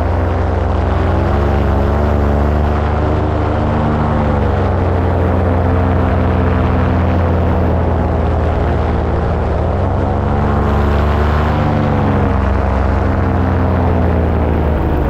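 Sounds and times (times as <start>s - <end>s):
paramotor engine and propeller: 0.0s - 15.0s.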